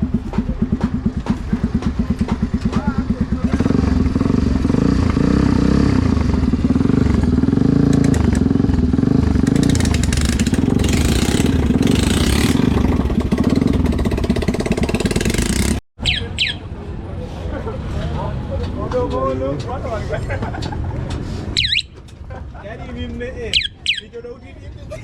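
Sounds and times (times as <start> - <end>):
motorcycle engine idling and revving: 0.0 - 22.0, 23.6 - 24.1.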